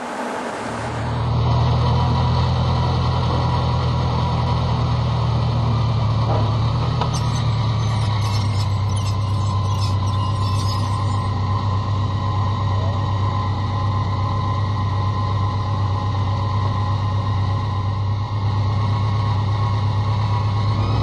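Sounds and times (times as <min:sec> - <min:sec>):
motorcycle engine low drone: 0:00.0 - 0:09.8, 0:10.4 - 0:21.0.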